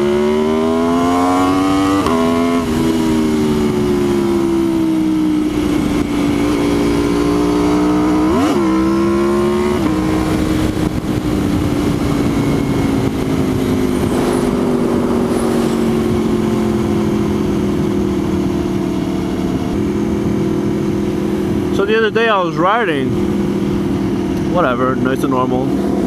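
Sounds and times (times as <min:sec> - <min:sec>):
motorcycle engine running: 0:00.0 - 0:26.0
wind rush: 0:00.0 - 0:26.0.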